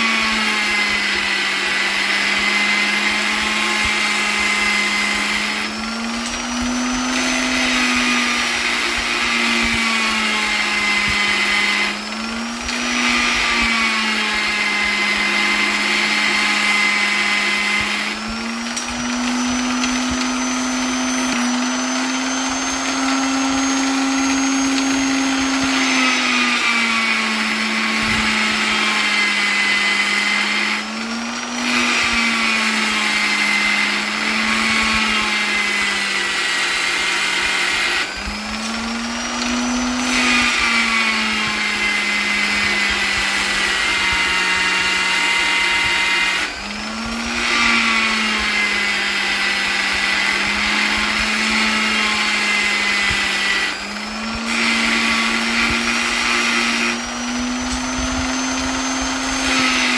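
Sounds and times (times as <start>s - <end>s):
electric polisher running: 0.0s - 59.9s.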